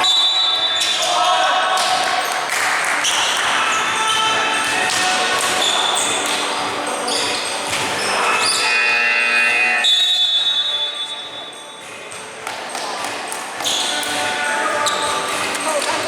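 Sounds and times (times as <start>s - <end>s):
sneaker squeaks: 0.0s - 16.0s.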